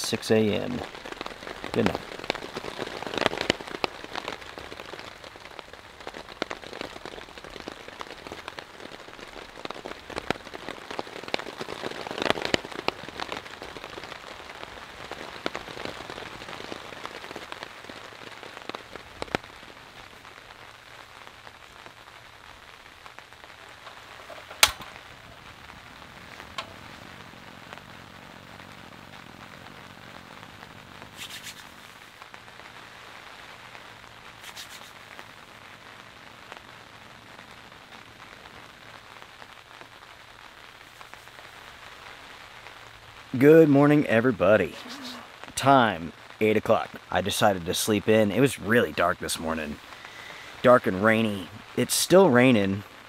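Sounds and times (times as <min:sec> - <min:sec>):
rain on tent fabric: 0:00.0 - 0:53.0.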